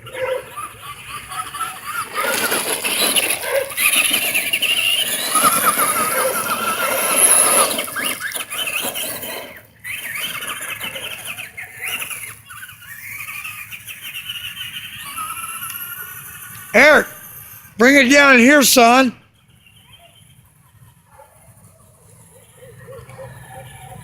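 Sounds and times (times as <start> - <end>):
rc car electric motor whining: 0.0 - 17.8, 19.4 - 24.0.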